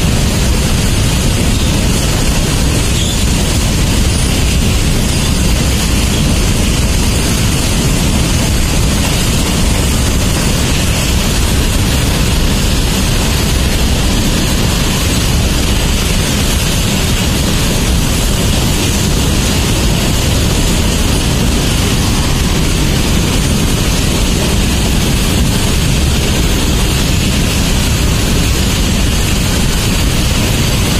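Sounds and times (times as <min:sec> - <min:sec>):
freight train wheels rolling: 0:00.0 - 0:30.9.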